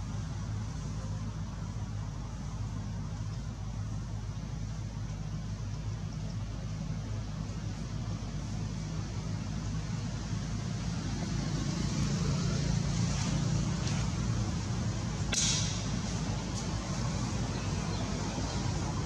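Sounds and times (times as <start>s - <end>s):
low rumble of background noise: 0.0s - 19.0s.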